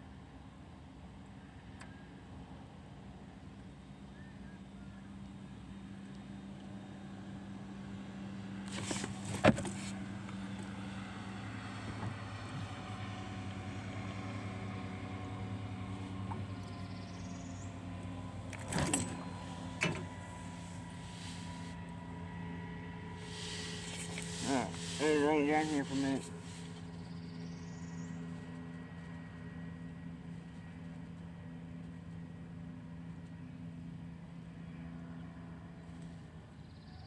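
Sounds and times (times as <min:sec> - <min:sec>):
vehicle engine hum: 0:00.8 - 0:37.0.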